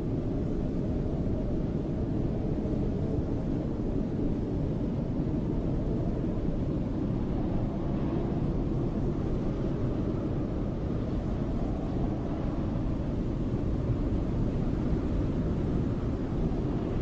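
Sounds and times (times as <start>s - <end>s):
deep rushing wind roar: 0.0s - 17.0s.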